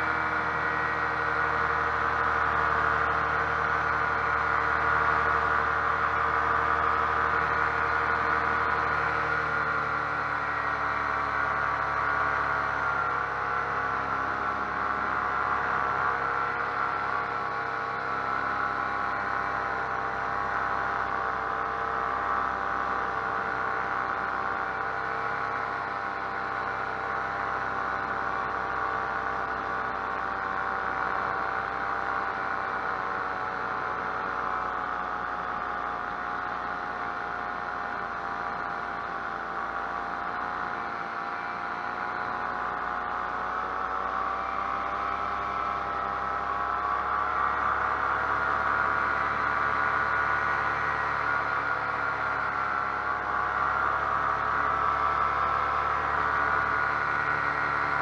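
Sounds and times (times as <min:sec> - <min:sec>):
paramotor engine droning: 0:00.0 - 0:58.0.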